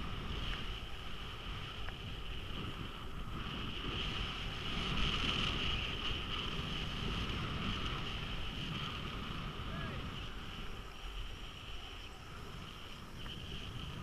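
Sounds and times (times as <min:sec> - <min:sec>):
skis hissing over snow: 0:00.0 - 0:14.0
wind rumbling on microphone: 0:00.0 - 0:14.0.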